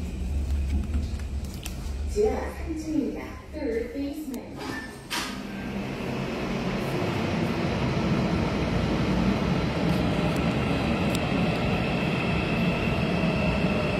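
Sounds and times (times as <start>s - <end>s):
subway train rumble: 0.0s - 13.9s.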